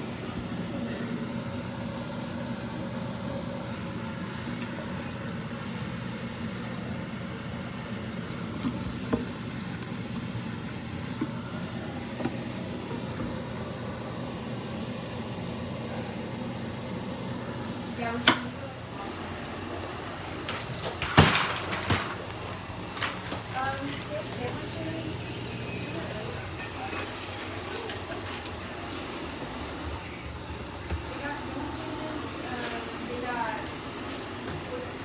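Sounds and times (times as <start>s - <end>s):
motor humming: 0.0s - 35.0s.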